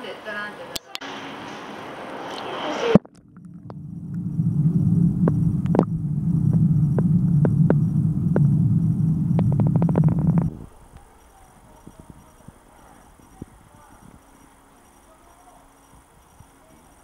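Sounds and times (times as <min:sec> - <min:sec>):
low underwater hum: 0:02.3 - 0:17.0.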